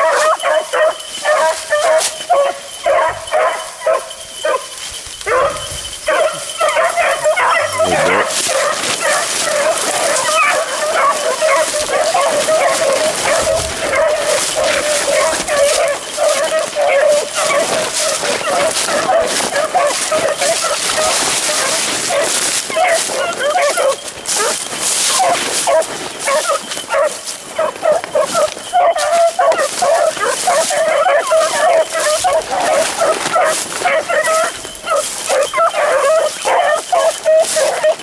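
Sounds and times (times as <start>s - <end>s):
beagles baying: 0.0s - 38.0s.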